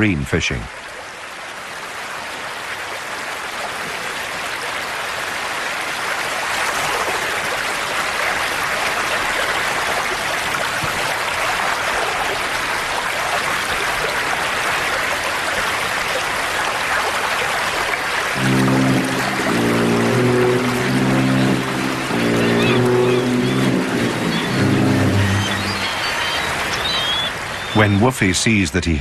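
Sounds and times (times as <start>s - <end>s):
fast-flowing river water rushing: 0.8s - 27.8s.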